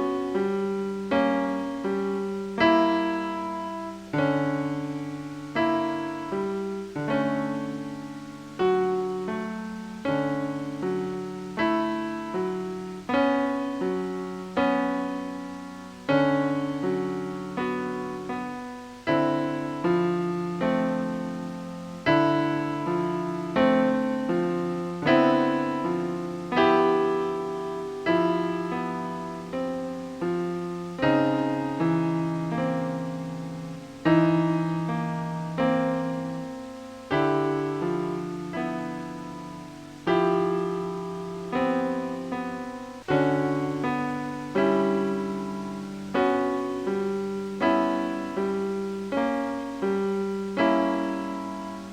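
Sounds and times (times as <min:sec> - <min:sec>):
slow ambient piano music: 0:00.0 - 0:51.9.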